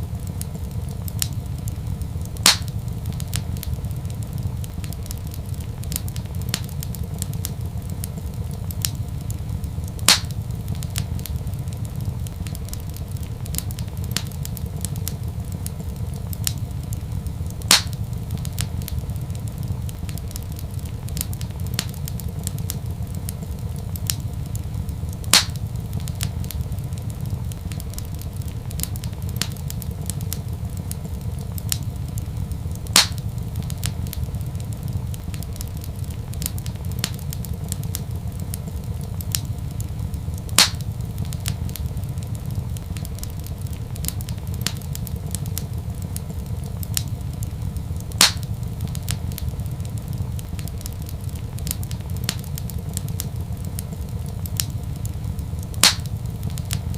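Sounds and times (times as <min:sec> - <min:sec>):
loud fire pops: 0:00.0 - 0:56.9
wood fire crackling: 0:00.0 - 0:56.9.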